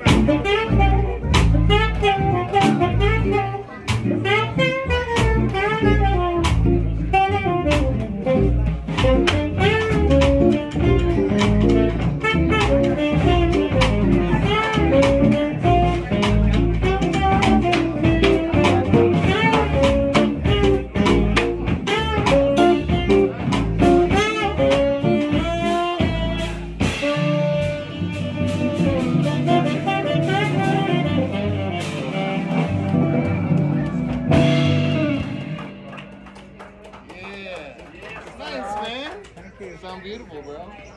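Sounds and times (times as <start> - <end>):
drum kit cymbals: 0.0 - 35.6
saxophone lead: 0.0 - 36.6
bass: 0.0 - 40.9.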